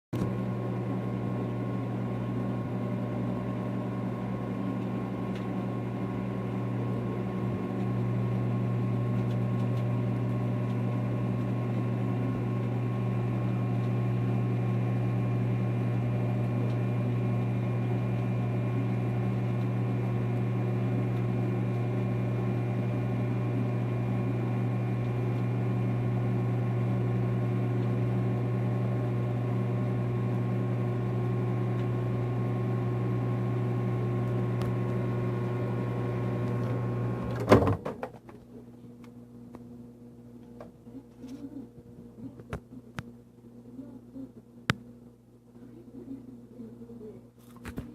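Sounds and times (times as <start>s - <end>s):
microwave oven humming: 0.2s - 47.9s.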